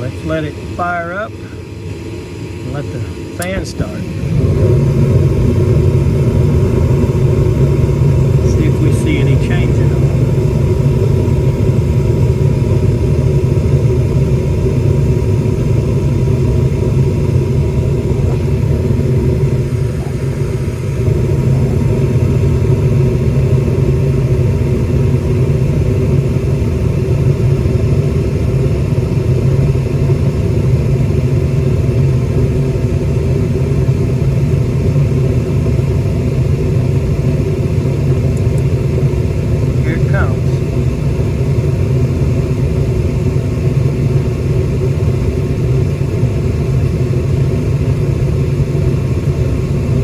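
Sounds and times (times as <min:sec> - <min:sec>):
gas furnace rumbling: 0:00.0 - 0:50.0.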